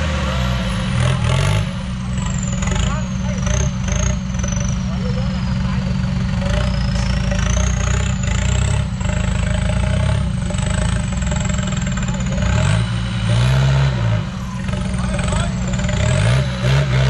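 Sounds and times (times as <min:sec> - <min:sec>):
diesel engine revving hard: 0:00.0 - 0:17.0.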